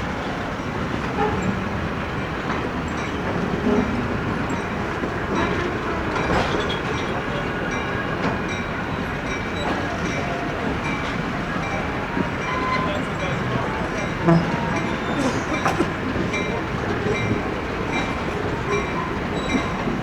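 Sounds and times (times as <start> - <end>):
train cars rumbling: 0.0 - 20.0
wheels clicking over rail joints: 0.8 - 20.0.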